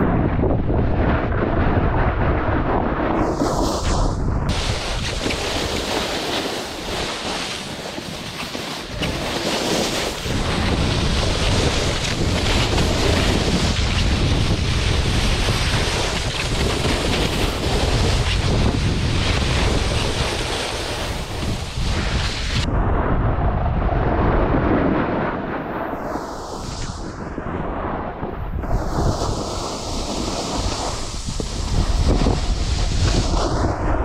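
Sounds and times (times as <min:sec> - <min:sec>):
wind buffeting microphone: 0:00.0 - 0:34.0
snowboard sliding on snow: 0:03.0 - 0:22.7, 0:24.3 - 0:34.0.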